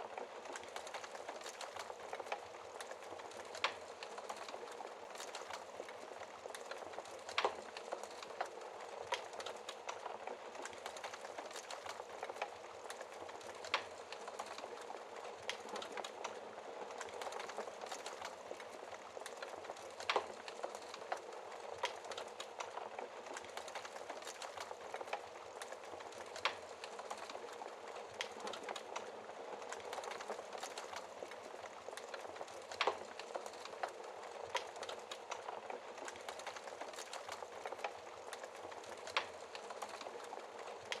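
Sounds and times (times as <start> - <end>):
fire crackling in a fireplace: 0.0 - 41.0.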